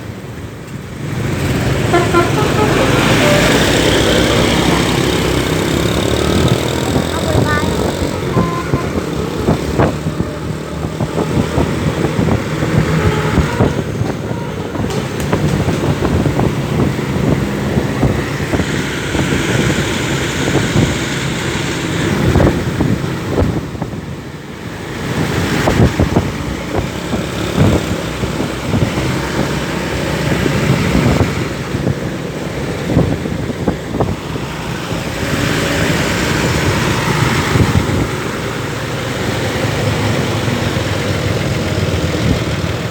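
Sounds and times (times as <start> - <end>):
engines running: 0.0 - 42.9
vehicles passing close by: 0.0 - 42.9.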